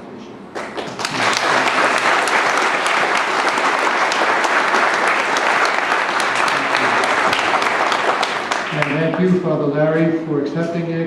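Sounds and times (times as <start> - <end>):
congregation applauding: 0.5 - 9.5.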